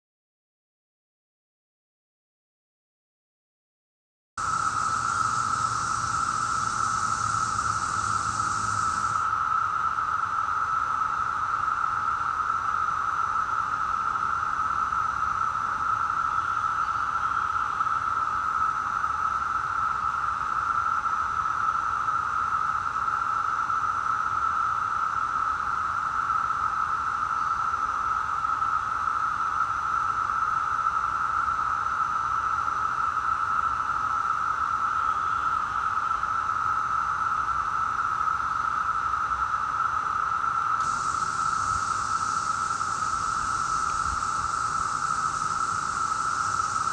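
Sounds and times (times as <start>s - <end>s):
cicadas droning: 4.4s - 46.9s.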